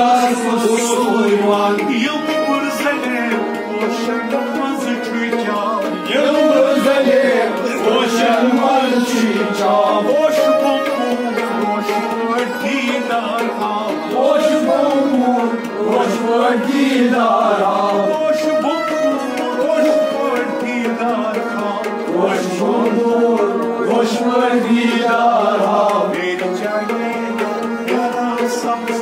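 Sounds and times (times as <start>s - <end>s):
hand drum beating: 0.0s - 29.0s
harmonium melody: 0.0s - 29.0s.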